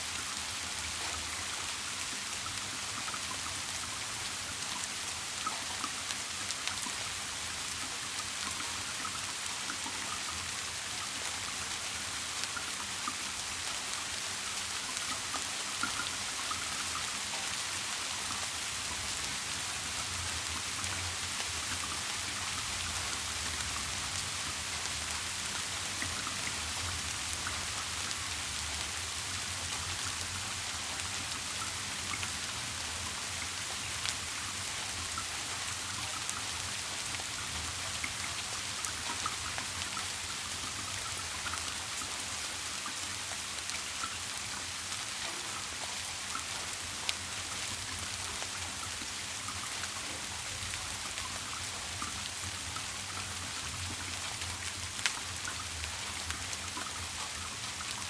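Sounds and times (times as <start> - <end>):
rain patter on a surface: 0.0 - 58.0.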